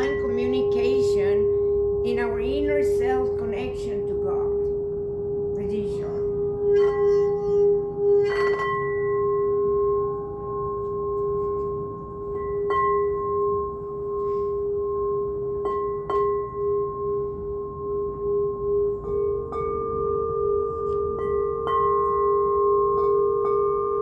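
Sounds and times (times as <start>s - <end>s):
second higher singing bowl: 0.0s - 24.0s
singing bowl ringing: 0.0s - 24.0s.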